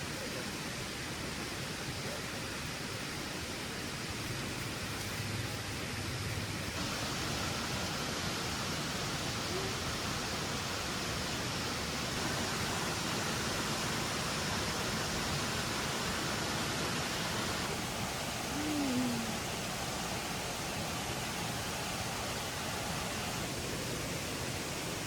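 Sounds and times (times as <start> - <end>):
steady rushing noise: 0.6 - 25.0.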